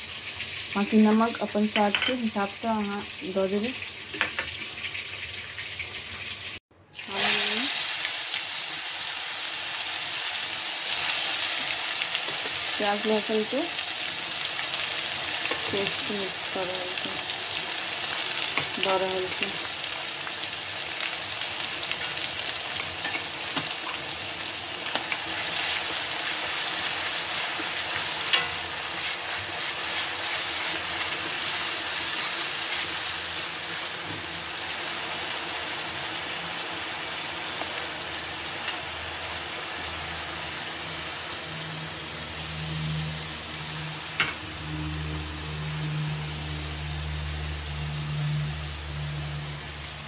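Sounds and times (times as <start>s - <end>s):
food sizzling in hot oil: 0.0s - 50.0s.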